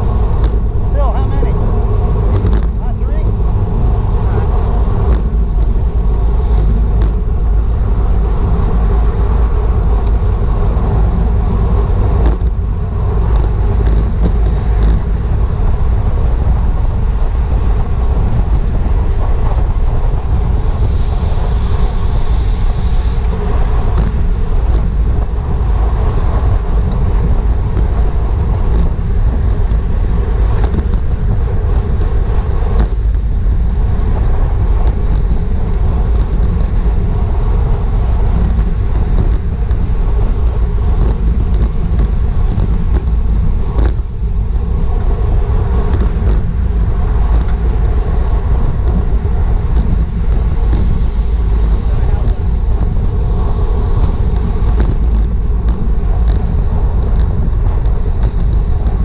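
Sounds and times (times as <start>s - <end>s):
wind rumbling over microphone: 0.0s - 59.0s
sharp clicks and rattles: 0.2s - 20.9s, 23.2s - 32.1s, 32.8s - 59.0s.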